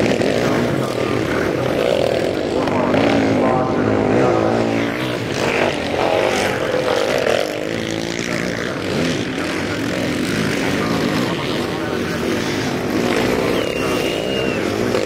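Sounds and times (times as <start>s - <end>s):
motocross engines revving hard: 0.0s - 15.0s.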